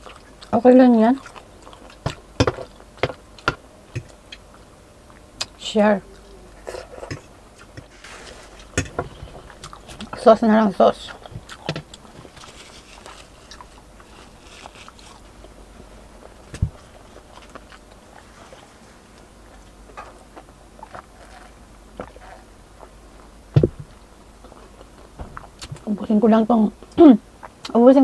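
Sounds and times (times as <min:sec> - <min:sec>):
person chewing food: 0:00.0 - 0:10.2, 0:10.9 - 0:25.9.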